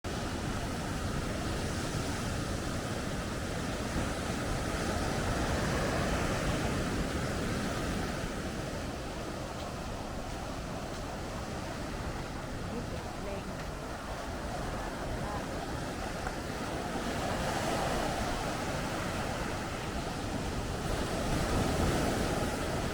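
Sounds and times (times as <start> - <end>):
strong wind: 0.1 - 22.9
surf breaking on beach: 0.1 - 22.9.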